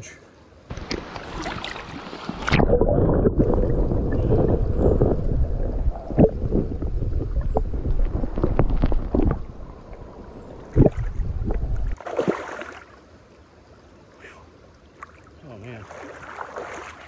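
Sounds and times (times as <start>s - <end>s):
muffled underwater river rushing: 0.6s - 17.0s.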